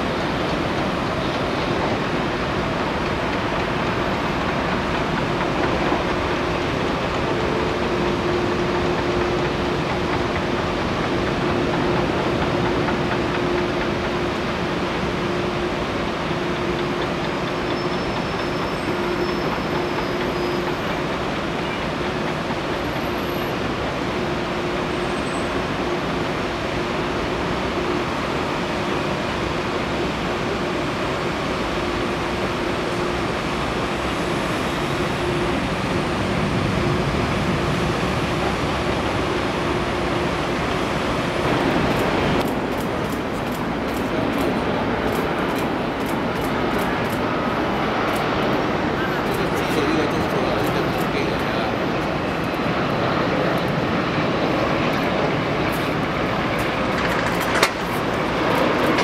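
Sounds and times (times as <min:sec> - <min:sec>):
constant hum: 0:00.0 - 0:59.0
distant jet engines roaring: 0:00.0 - 0:59.0.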